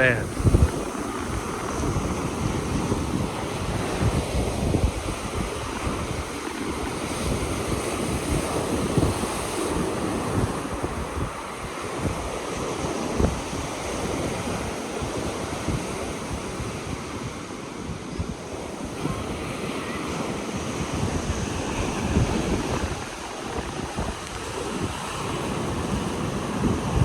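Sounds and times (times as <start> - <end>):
ocean surf washing ashore: 0.0 - 27.0
wind buffeting microphone: 0.0 - 27.0.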